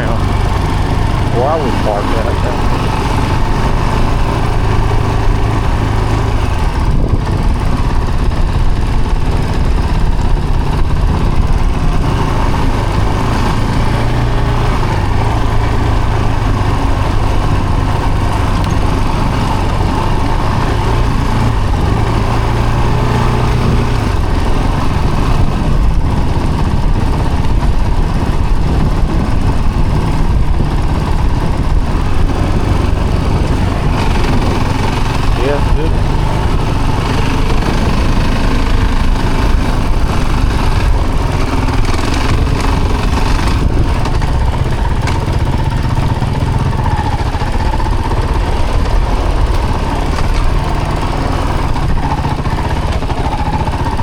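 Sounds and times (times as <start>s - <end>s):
continuous rumbling noise: 0.0s - 54.0s
vehicle engine running: 0.0s - 54.0s.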